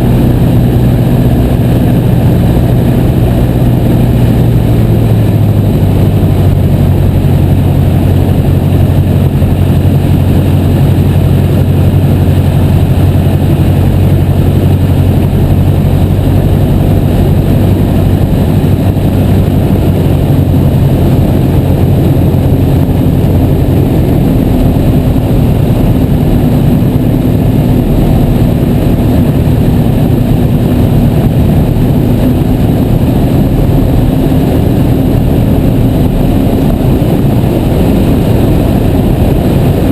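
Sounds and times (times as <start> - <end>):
light aircraft engine and propeller: 0.0 - 39.9
rushing wind noise: 0.0 - 39.9.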